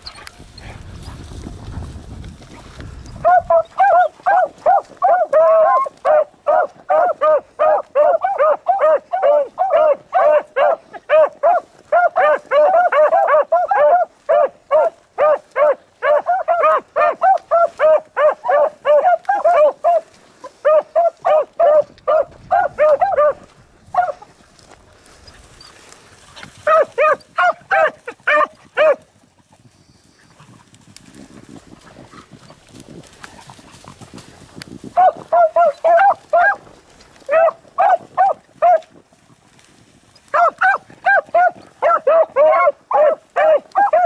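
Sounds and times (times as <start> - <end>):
hounds baying: 3.0 - 31.1, 34.9 - 38.9, 40.2 - 44.0.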